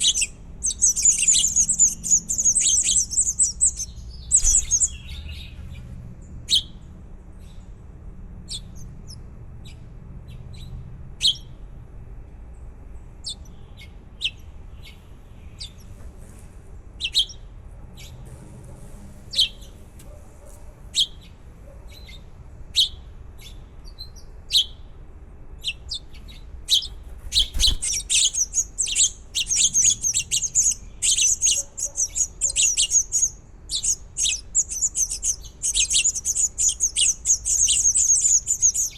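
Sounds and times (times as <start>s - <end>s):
baby birds cheeping: 0.0s - 11.6s, 12.9s - 16.0s, 16.9s - 38.9s.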